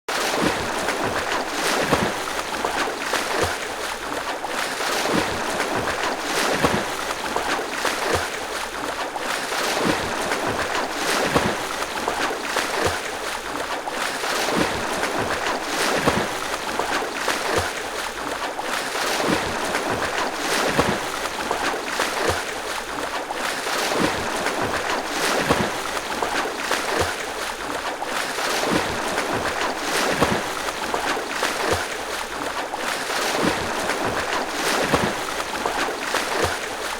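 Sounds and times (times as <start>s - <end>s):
swimmer's strokes splashing: 0.1s - 36.9s
wash of moving water: 0.1s - 36.9s.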